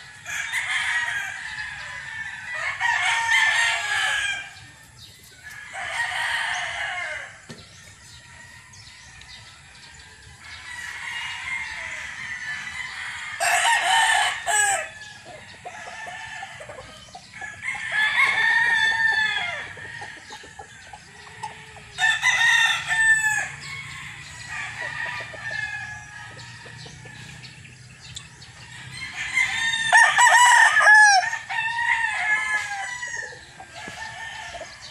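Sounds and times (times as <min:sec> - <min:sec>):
roosters crowing: 0:00.0 - 0:34.9.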